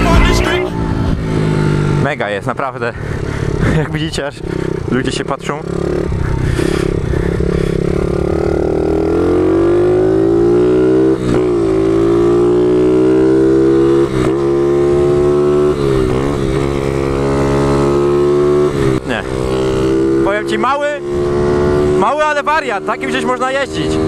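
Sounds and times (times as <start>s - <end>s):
pitbike engine revving: 3.0s - 24.0s.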